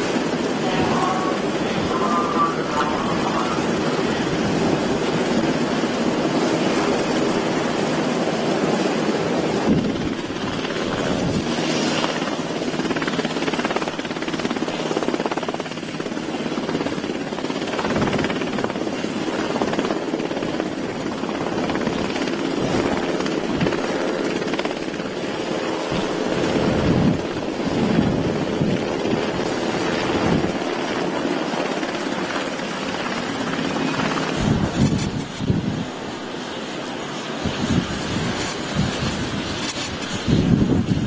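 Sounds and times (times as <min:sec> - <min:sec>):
helicopter rotors and engines: 0:00.0 - 0:41.0.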